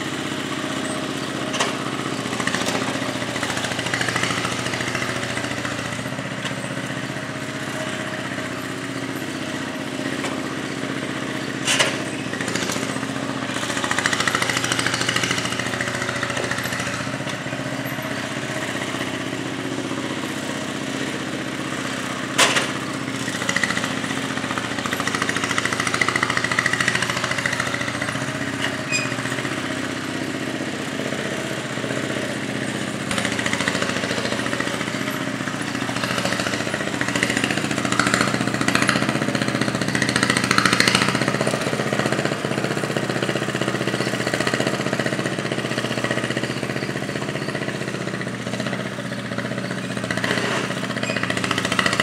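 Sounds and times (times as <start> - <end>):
garden tractor engine running: 0.0 - 52.0.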